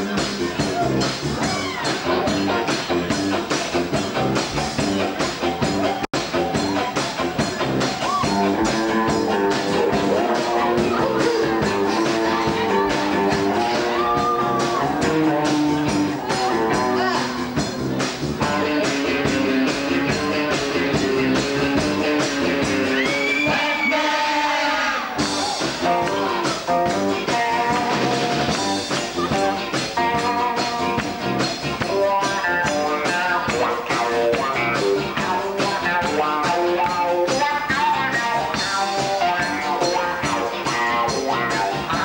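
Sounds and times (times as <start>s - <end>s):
drums with a steady beat: 0.0s - 42.0s
electric guitar: 0.0s - 42.0s
person singing: 6.7s - 42.0s.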